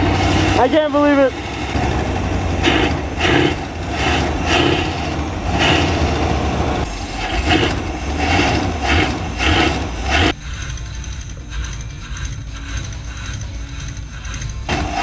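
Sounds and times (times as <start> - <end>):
motorhome engine running unevenly: 0.0 - 15.0.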